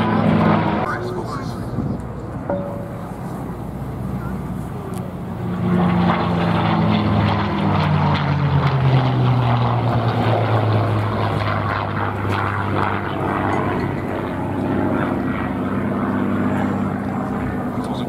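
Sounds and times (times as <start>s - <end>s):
propeller plane engine flying past: 0.0s - 18.0s.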